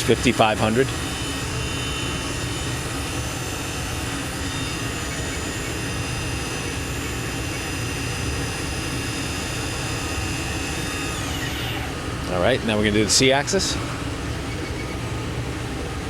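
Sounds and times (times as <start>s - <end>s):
lathe spindle whine: 0.0s - 16.0s
low running hum: 0.0s - 16.0s.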